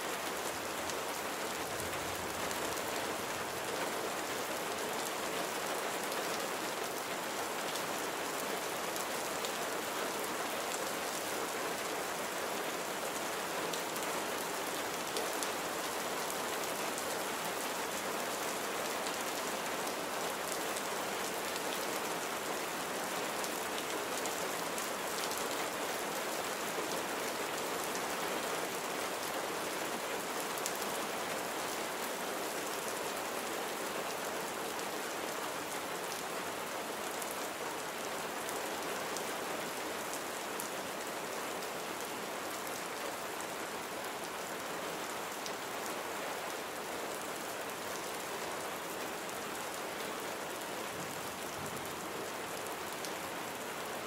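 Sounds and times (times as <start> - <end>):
rain pattering on surfaces: 0.1 - 54.0.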